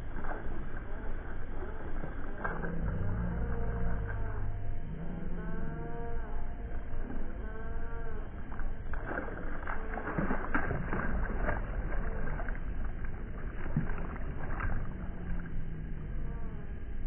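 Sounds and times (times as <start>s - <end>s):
fish splashing at surface: 0.0s - 16.4s
low rumble: 0.0s - 17.0s.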